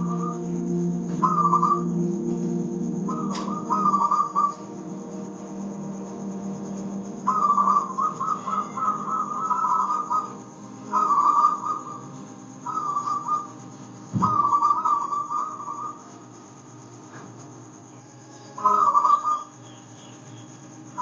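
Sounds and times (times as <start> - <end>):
dove cooing: 0.0 - 6.4, 7.0 - 16.1, 18.4 - 20.2
soft sustained instrumental tones: 0.0 - 21.0.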